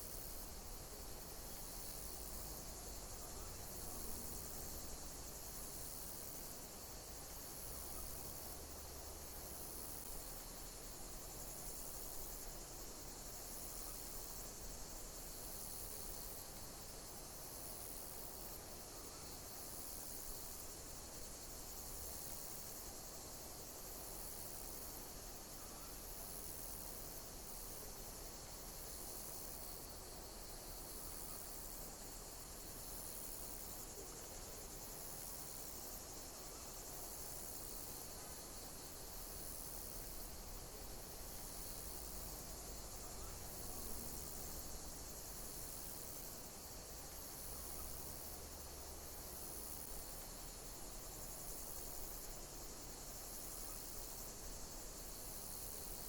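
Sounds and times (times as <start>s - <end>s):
insects chirping: 0.0s - 56.0s
steady hiss: 0.0s - 56.0s.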